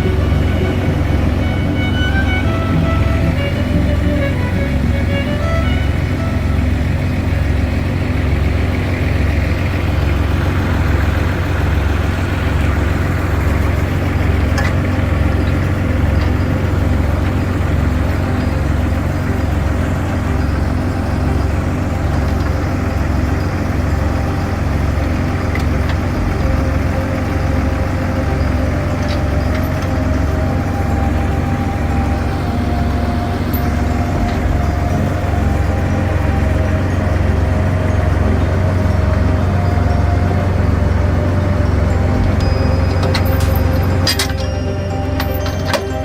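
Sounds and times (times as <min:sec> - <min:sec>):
heavy engine idling: 0:00.0 - 0:46.0.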